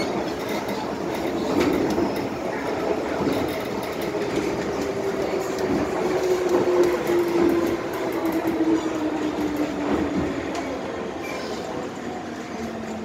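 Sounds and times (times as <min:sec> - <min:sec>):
wheels clattering on rails: 0:00.0 - 0:13.0.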